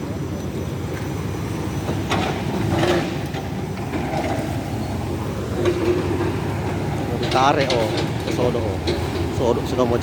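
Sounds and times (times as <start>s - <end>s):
diesel engine low rumble: 0.0s - 10.0s.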